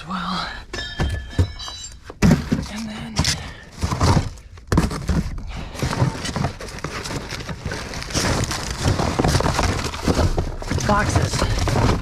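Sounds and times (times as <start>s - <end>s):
debris knocking and clattering: 0.7s - 12.0s.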